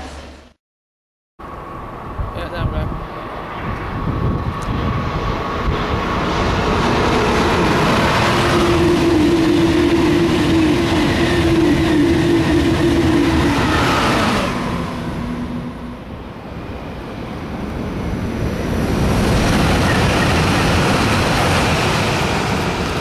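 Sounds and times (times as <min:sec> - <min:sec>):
high-speed train passing: 0:01.4 - 0:23.0.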